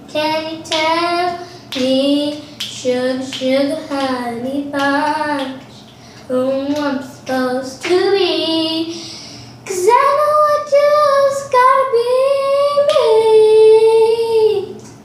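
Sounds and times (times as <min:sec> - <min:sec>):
girl singing unaccompanied: 0:00.0 - 0:14.8.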